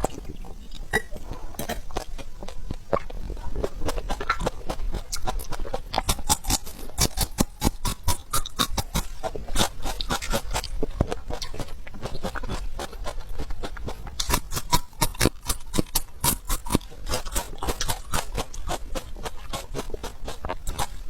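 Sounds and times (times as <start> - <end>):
mouth clicks and smacks: 0.0 - 18.6
person chewing food: 0.0 - 21.0.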